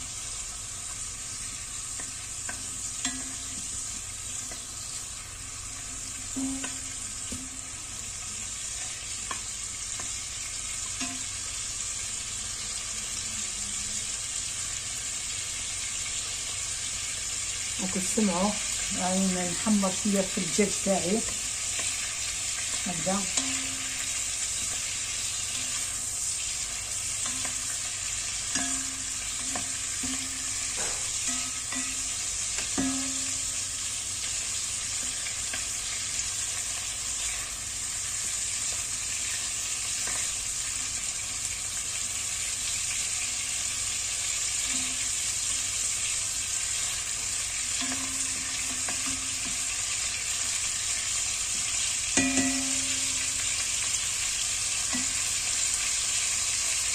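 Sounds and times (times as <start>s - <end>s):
chicken sizzling in a pot: 0.0s - 56.9s.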